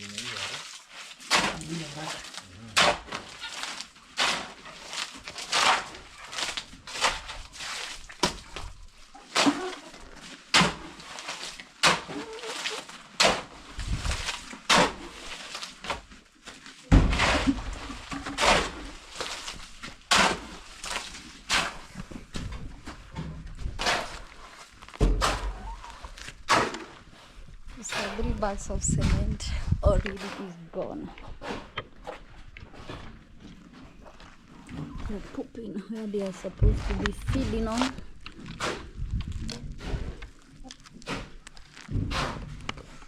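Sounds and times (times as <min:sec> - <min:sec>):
tools scraping wet mortar: 0:00.0 - 0:43.0.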